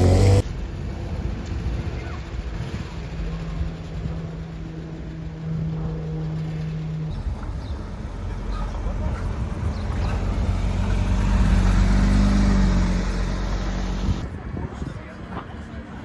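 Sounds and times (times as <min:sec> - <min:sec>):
car engine idling: 0:00.0 - 0:14.3
car engine rumbling: 0:00.0 - 0:14.3.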